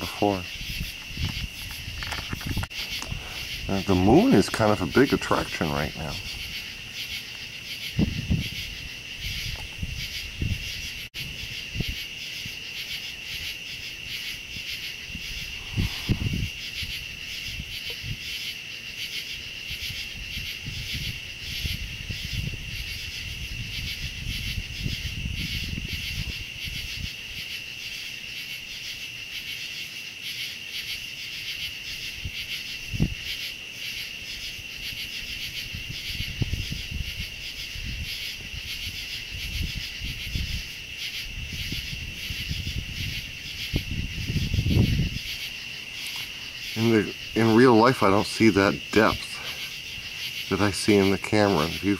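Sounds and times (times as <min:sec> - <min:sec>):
crickets and insects trilling: 0:00.0 - 0:51.9.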